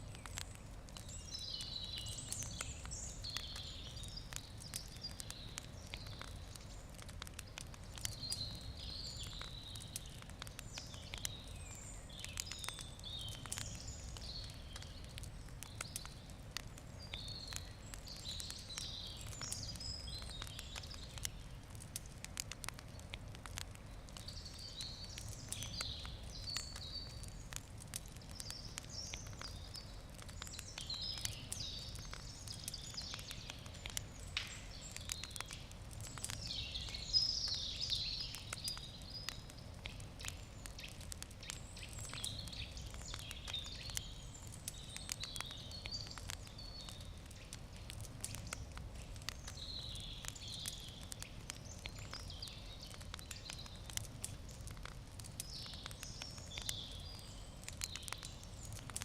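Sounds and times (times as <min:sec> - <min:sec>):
campfire crackling and popping: 0:00.0 - 0:59.0
faint low outdoor rumble: 0:00.0 - 0:59.0.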